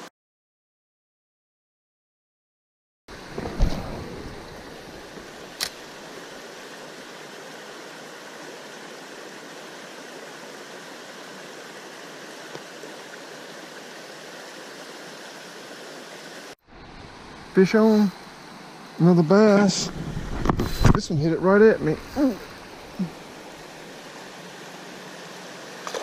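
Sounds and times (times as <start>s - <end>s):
creek water running: 3.1s - 26.0s.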